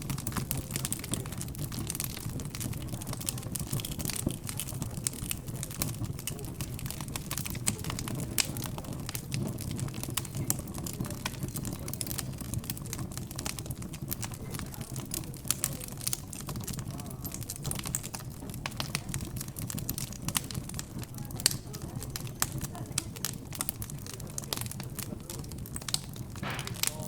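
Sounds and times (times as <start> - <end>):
fireplace fire crackling and popping: 0.0 - 27.0
murmur of background chatter: 0.0 - 27.0.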